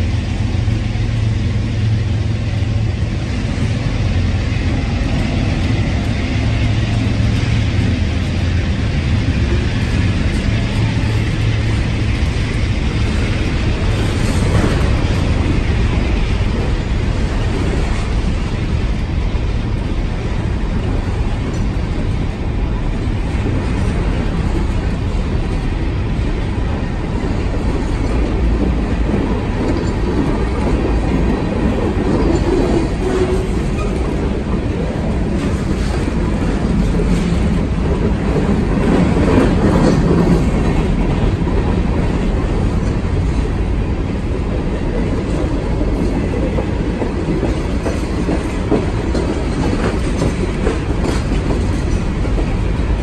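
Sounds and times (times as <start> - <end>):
freight train rolling past: 0.0 - 53.0.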